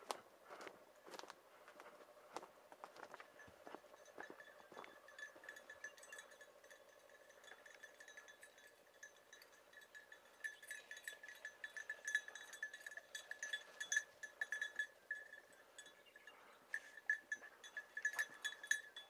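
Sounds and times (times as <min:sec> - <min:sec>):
small collar bells tinkling: 0:02.8 - 0:19.0.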